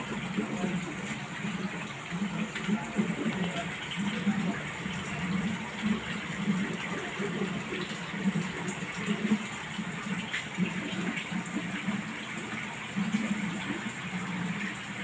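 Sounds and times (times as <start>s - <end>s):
water splashing into aquarium: 0.0s - 15.0s.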